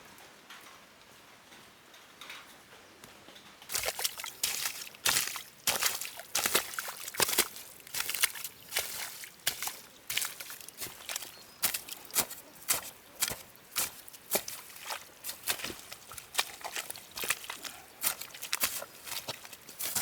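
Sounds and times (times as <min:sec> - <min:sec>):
water splashing and sloshing: 0:03.7 - 0:20.0.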